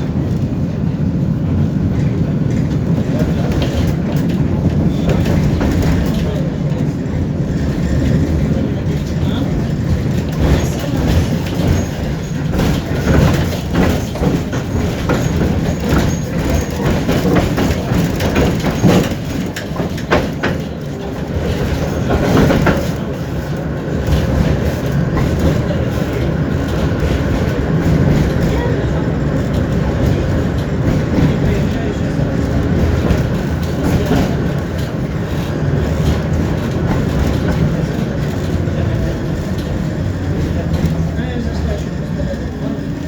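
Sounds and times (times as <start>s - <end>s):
tram running gear rumble: 0.0s - 43.0s
wheels clacking over rail joints: 1.4s - 43.0s.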